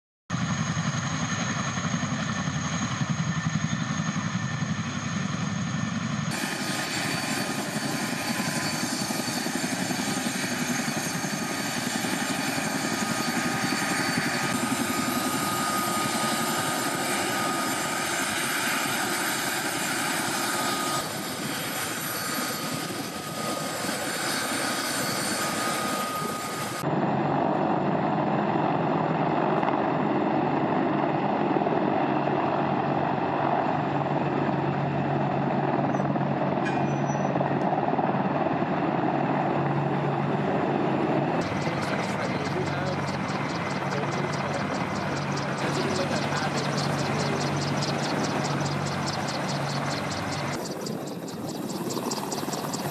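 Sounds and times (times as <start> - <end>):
helicopter engines and rotors: 0.3 - 52.9.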